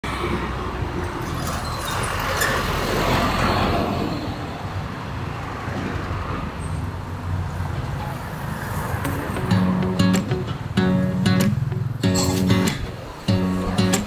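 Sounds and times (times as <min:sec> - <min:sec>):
low rumble of passing cars: 0:00.0 - 0:14.0.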